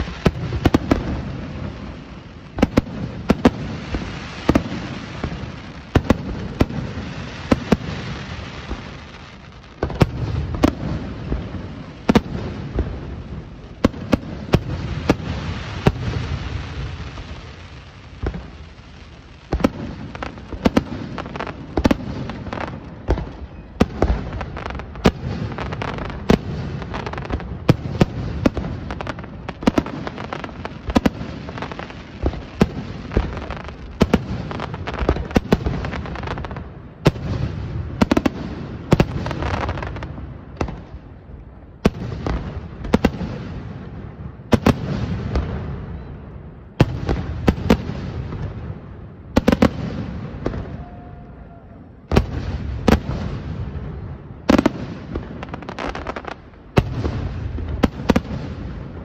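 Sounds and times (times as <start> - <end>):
fireworks bursting overhead: 0.0 - 59.0.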